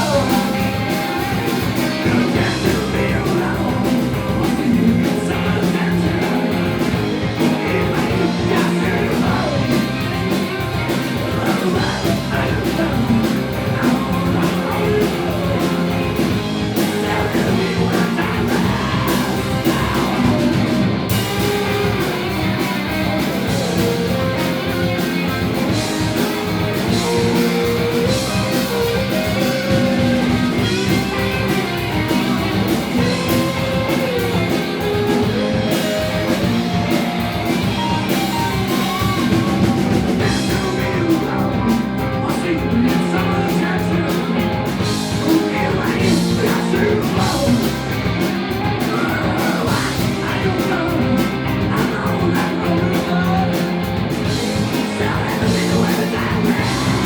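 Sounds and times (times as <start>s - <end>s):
lead singer singing: 0.0s - 57.0s
rock band playing live: 0.0s - 57.0s.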